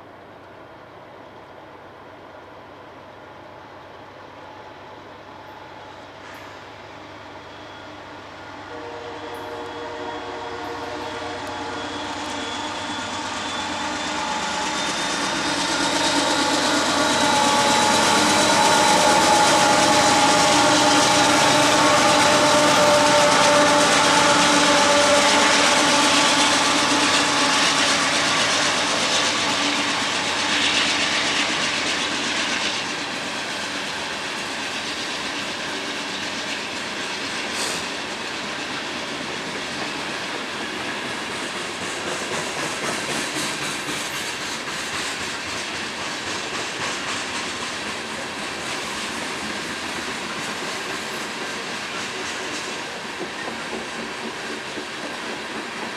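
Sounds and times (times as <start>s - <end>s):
diesel locomotives passing: 0.0s - 55.9s.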